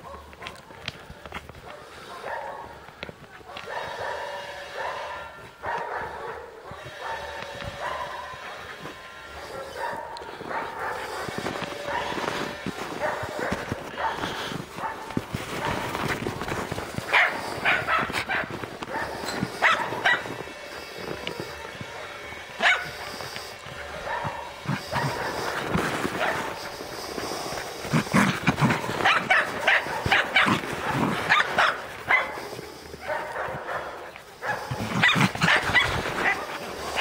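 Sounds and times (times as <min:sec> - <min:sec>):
dog barking: 0:00.0 - 0:00.8, 0:01.6 - 0:02.8, 0:03.4 - 0:16.1, 0:16.9 - 0:37.0.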